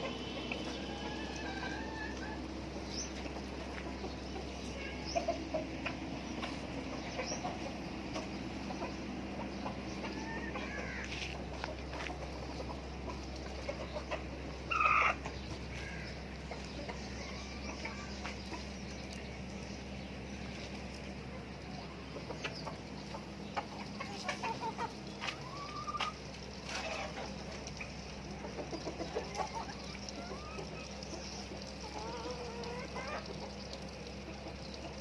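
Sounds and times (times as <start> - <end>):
hens clucking: 0.0 - 35.0.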